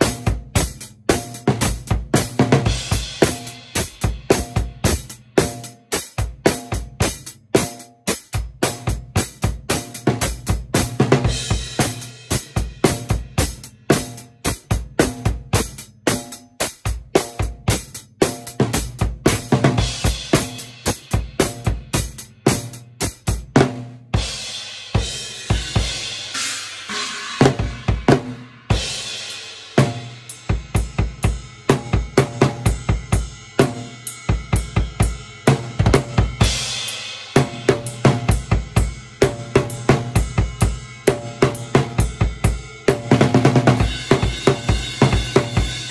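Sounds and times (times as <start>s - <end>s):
drum kit playing steady beat: 0.0s - 45.9s.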